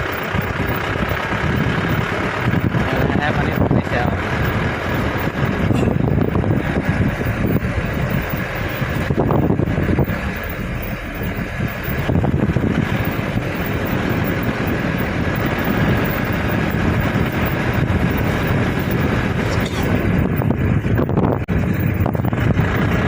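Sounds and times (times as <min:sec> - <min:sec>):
floodwater rushing: 0:00.0 - 0:20.8
wind buffeting microphone: 0:00.0 - 0:23.0.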